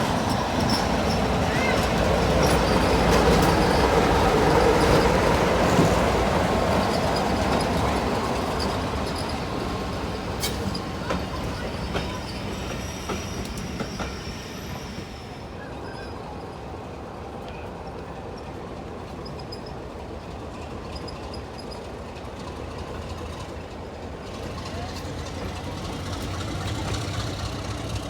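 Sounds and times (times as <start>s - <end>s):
train wheels squealing on rails: 0.0s - 28.0s.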